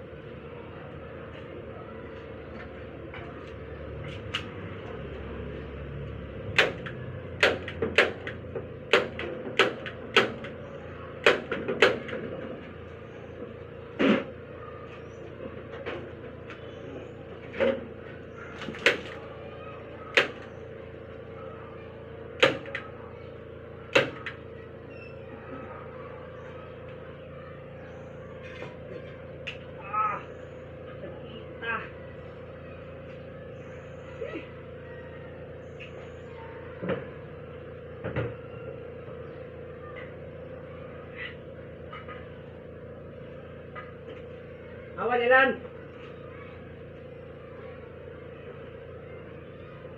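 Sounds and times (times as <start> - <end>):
steady hum: 0.0 - 49.9.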